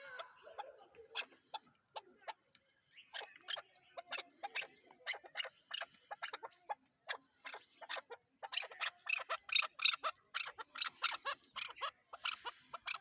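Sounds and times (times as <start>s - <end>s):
partridge clucking calls: 0.0s - 13.0s.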